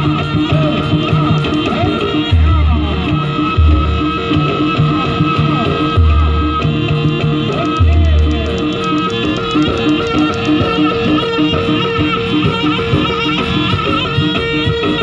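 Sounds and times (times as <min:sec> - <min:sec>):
dance music with percussion and reed: 0:00.0 - 0:15.0.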